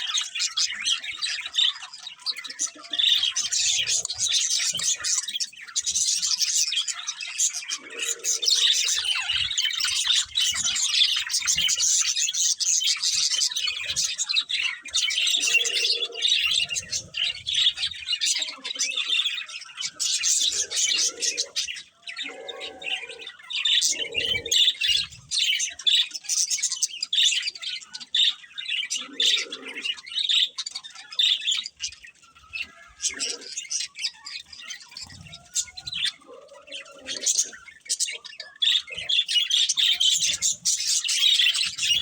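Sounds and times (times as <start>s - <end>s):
budgies chirping and chattering: 0.0s - 42.0s.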